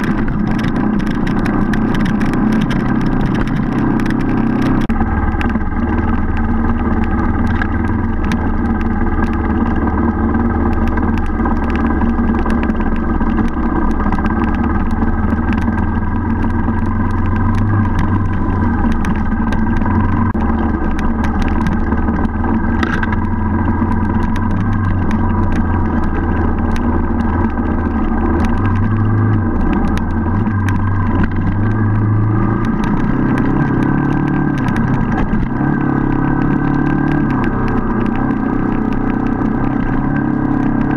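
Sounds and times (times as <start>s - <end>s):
motorcycle engine running: 0.0s - 40.9s
small ticks and clicks: 0.0s - 40.9s.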